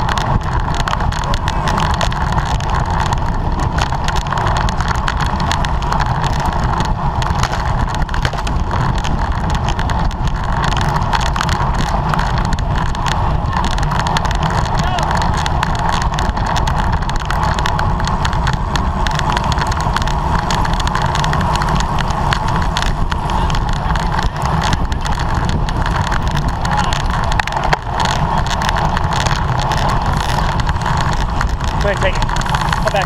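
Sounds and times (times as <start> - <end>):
bicycle road noise: 0.0 - 33.0
wind rush: 0.0 - 33.0.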